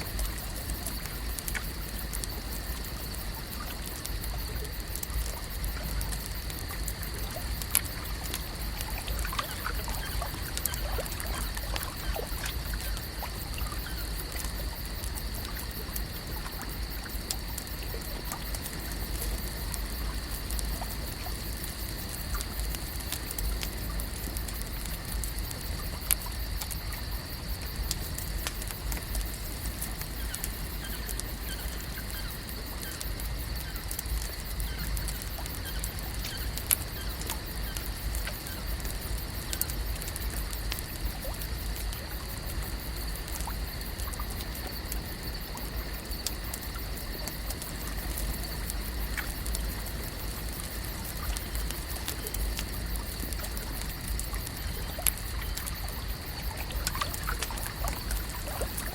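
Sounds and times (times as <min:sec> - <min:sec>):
small clicks and ticks: 0:00.0 - 0:58.9
water trickling: 0:00.0 - 0:58.9.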